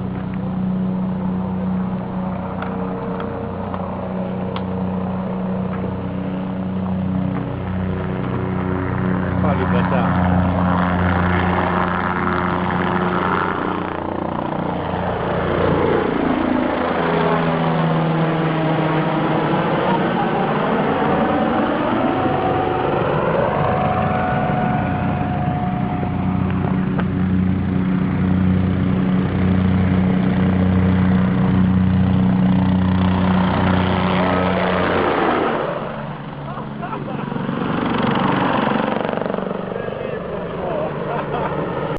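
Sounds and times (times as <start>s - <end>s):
helicopter flying low past: 0.0s - 41.9s
steady engine hum: 0.0s - 41.9s.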